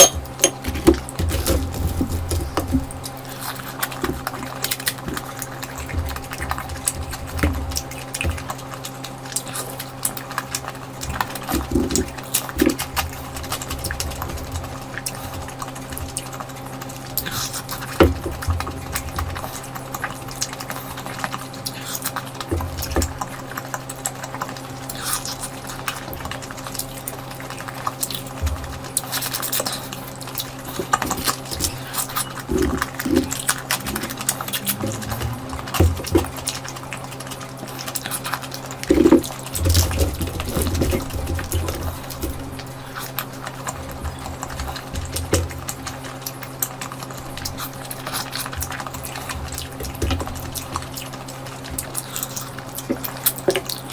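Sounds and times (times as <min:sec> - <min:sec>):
steady electrical hum: 0:00.0 - 0:53.9
wet eating and chewing sounds: 0:00.0 - 0:53.9.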